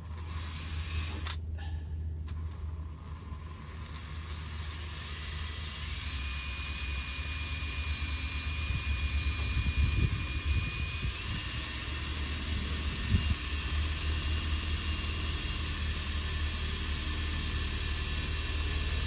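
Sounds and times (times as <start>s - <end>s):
power tool motor whining: 0.0s - 1.4s, 2.4s - 19.0s.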